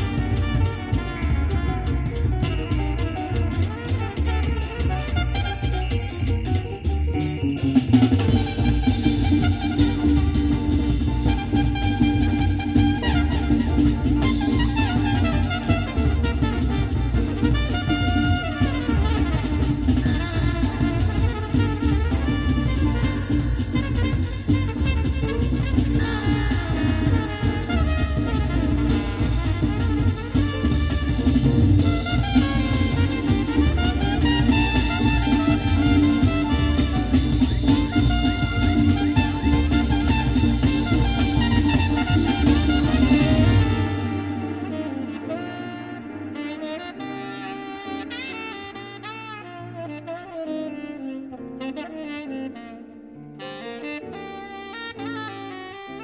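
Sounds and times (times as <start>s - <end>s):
jazz on car stereo: 0.0s - 56.0s.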